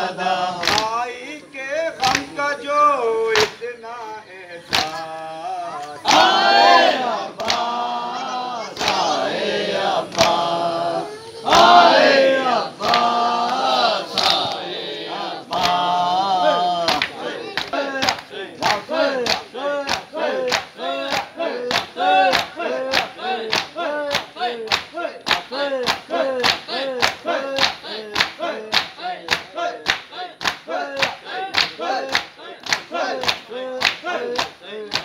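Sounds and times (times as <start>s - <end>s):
men chanting: 0.0s - 35.0s.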